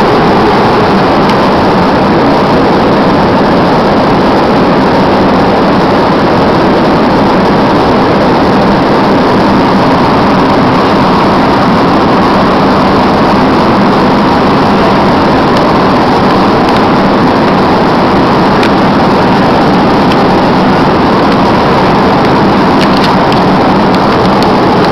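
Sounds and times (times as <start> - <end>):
airplane cabin engine noise: 0.0 - 24.9
faint steady hum: 0.0 - 24.9.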